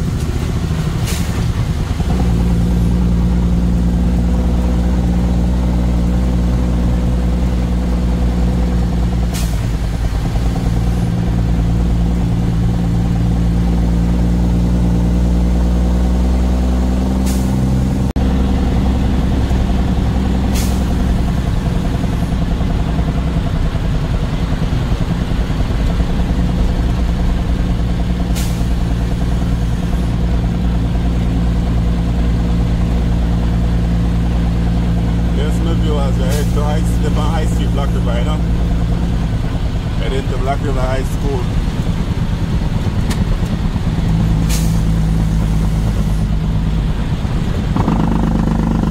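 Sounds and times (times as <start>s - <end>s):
truck engine droning: 0.0s - 48.9s.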